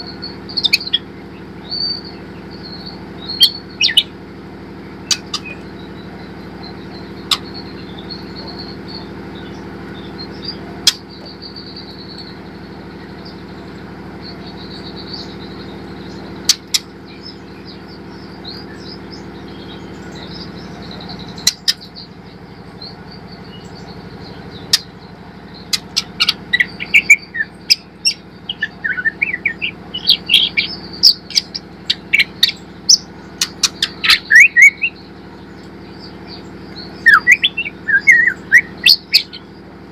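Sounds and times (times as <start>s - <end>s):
young bird twittering and clicking: 0.0s - 4.2s, 5.0s - 39.7s
steady low hum: 0.0s - 39.9s.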